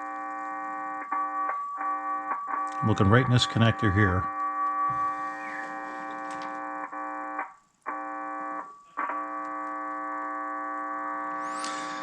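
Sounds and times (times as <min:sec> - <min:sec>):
radio monitor buzzing hum: 0:00.0 - 0:12.0.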